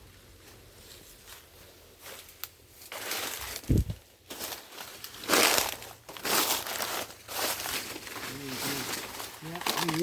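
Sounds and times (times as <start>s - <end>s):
rustling crinkling noise: 0.4s - 10.0s.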